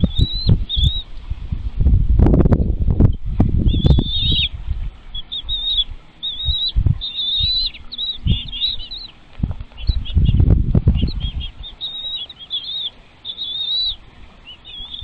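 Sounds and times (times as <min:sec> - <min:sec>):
nestling birds chirping: 0:00.0 - 0:15.0.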